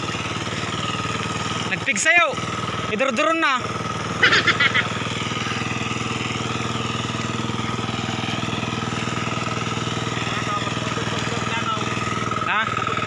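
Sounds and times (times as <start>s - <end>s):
hand tractor engine running: 0.0s - 13.0s.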